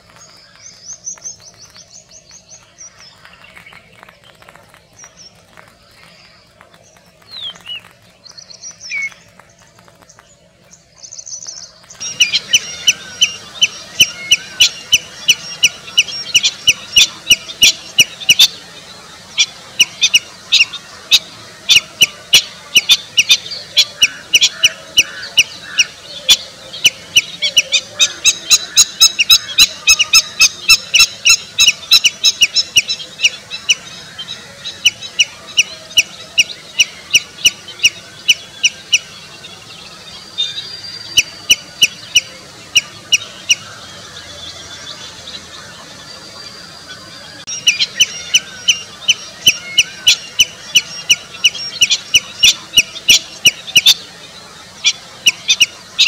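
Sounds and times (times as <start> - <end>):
redshank calling: 0.0 - 56.0.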